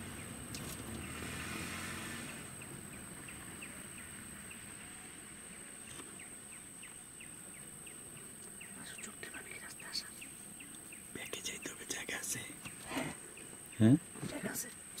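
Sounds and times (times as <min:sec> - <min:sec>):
bird chirping: 0:02.2 - 0:15.0.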